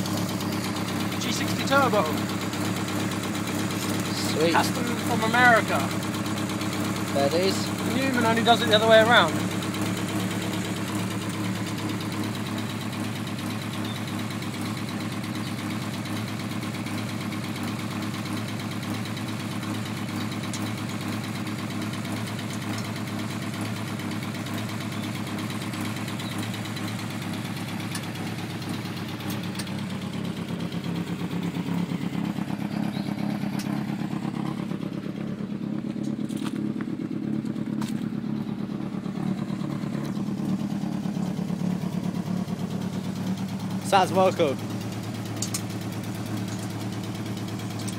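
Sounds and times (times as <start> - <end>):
leaking exhaust blowing: 0.0 - 47.9
turbocharged car engine running: 0.0 - 47.9.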